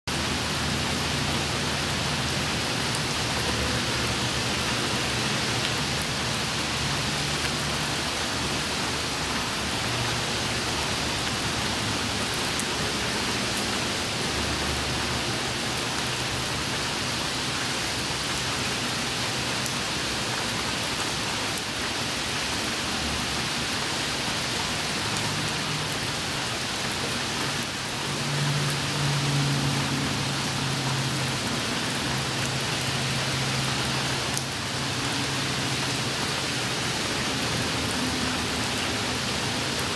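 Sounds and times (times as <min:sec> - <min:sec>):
rain on pavement: 0:00.0 - 0:39.9.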